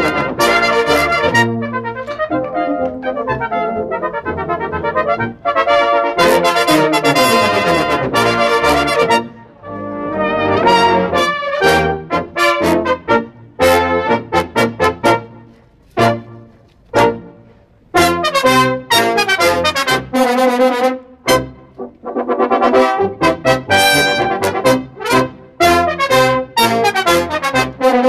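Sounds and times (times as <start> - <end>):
brass band playing a march: 0.0 - 28.0.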